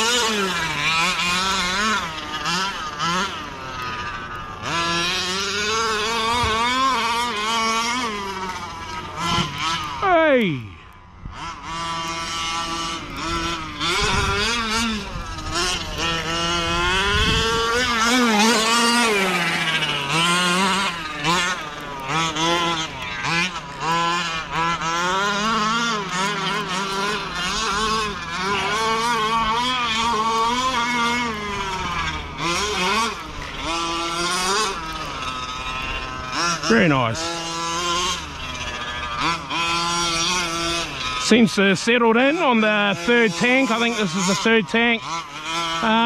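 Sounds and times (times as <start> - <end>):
small two-stroke engine revving: 0.0 - 46.0.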